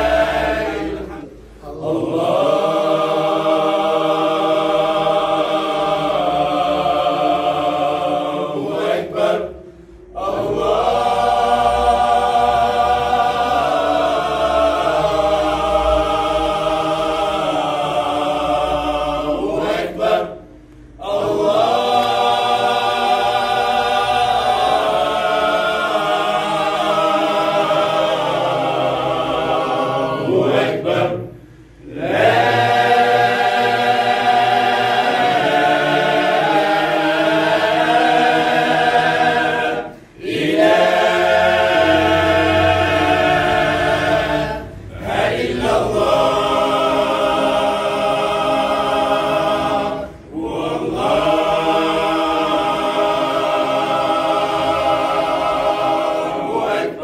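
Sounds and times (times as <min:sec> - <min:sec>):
group of voices chanting: 0:00.0 - 0:57.0.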